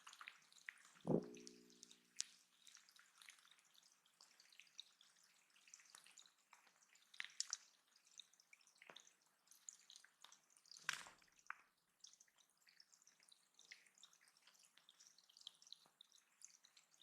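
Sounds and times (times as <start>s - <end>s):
water dripping into pond: 0.0s - 17.0s.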